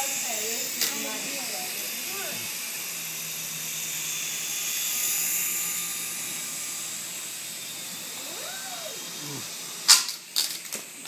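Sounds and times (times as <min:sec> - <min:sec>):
toy helicopter rotor buzz: 0:00.0 - 0:11.0.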